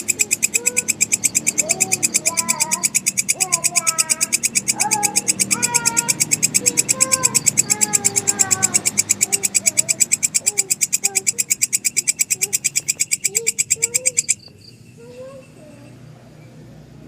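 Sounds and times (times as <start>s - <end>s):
grasshopper stridulating: 0.0s - 15.4s
faint rising and falling calls: 0.0s - 17.0s.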